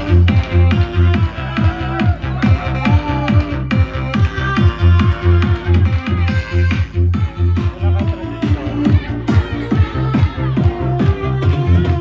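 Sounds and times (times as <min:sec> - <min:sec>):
electronic dance music: 0:00.0 - 0:12.0
kick drum beat: 0:00.0 - 0:12.0
low bass notes: 0:00.0 - 0:12.0.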